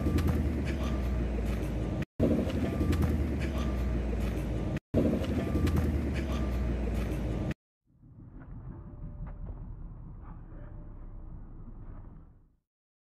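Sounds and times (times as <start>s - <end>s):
low rumble: 1.3s - 12.6s.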